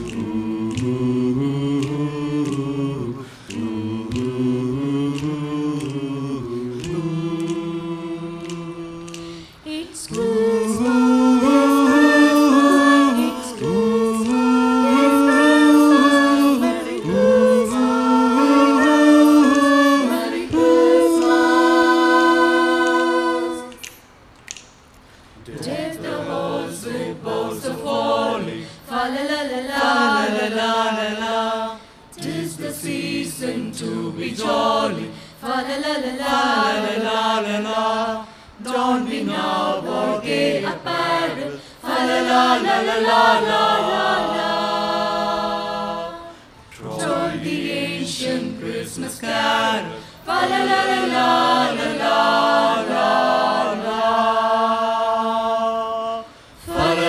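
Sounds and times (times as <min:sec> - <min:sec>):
vocal group singing a cappella: 0:00.0 - 0:57.0.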